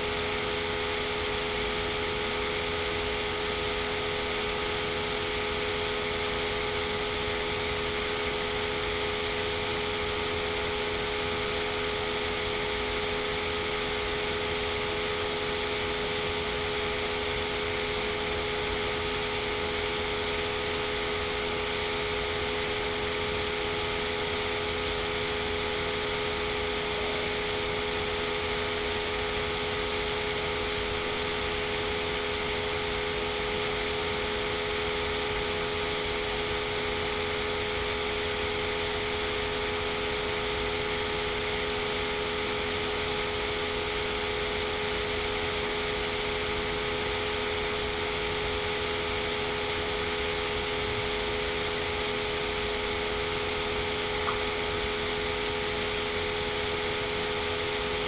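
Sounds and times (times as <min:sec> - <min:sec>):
machine hum and hiss: 0:00.0 - 0:58.0.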